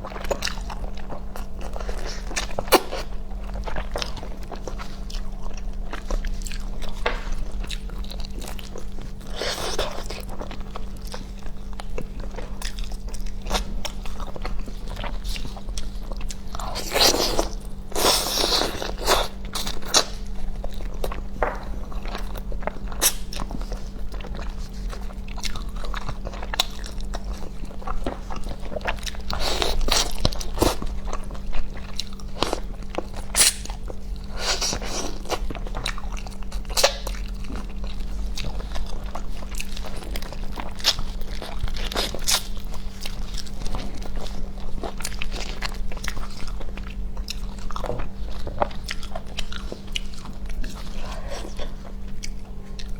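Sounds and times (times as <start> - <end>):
person chewing and crunching: 0.0 - 52.9.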